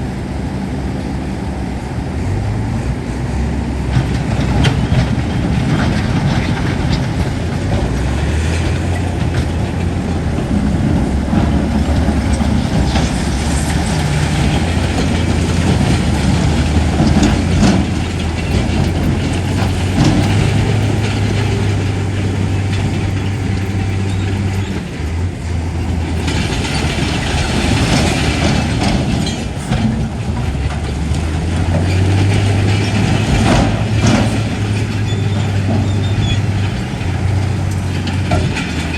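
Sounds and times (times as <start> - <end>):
heavy diesel machinery engine: 0.0 - 38.9
rattling and scraping: 3.9 - 38.9.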